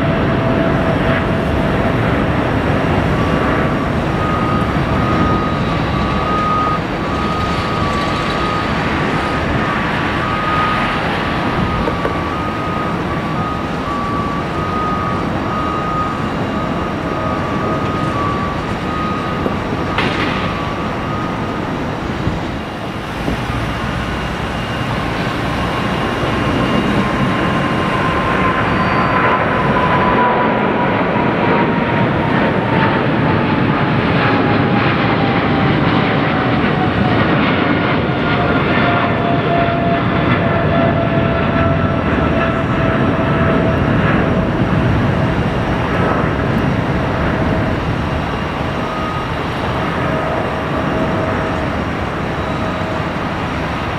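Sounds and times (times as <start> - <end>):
jet airliner roaring past: 0.0 - 53.9.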